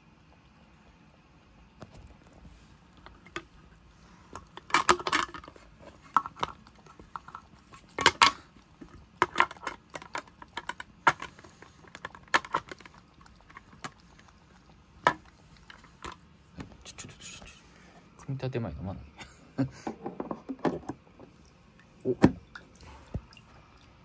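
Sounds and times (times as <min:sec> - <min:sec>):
cat lapping water: 0:00.0 - 0:17.8, 0:21.0 - 0:24.0.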